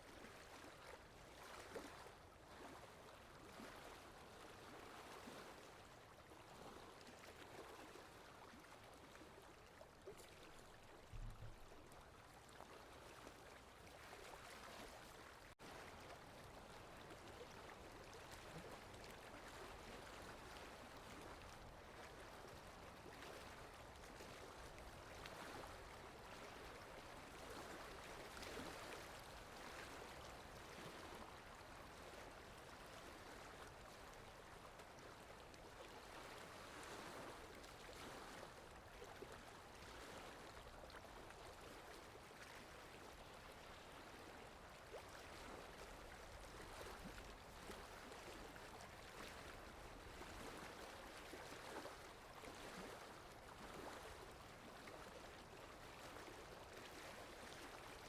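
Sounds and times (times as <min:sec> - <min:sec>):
wind: 0:00.0 - 0:58.0
water lapping: 0:00.1 - 0:58.0.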